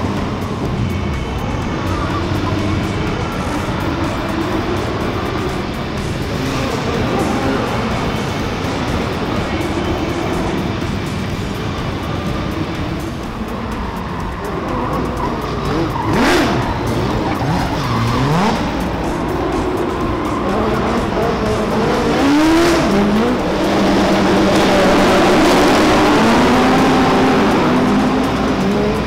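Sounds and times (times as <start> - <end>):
car engines revving: 0.0 - 29.0
tyres squealing: 0.0 - 29.0.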